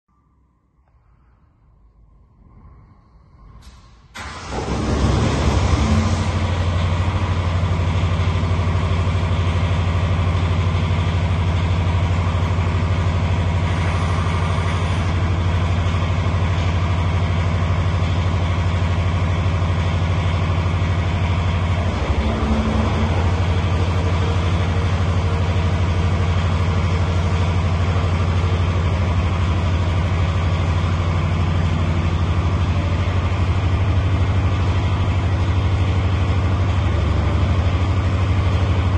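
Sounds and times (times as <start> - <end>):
diesel generator engine running: 3.1 - 38.9.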